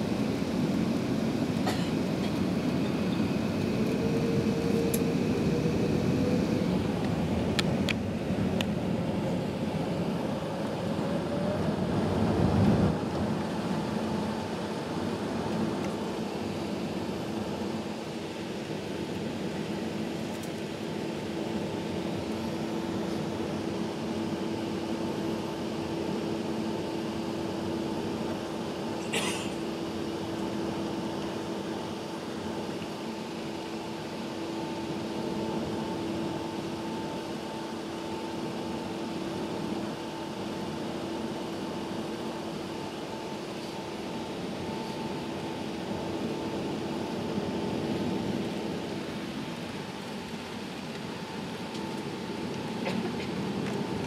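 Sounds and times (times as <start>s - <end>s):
aircraft cabin low drone: 0.0s - 54.0s.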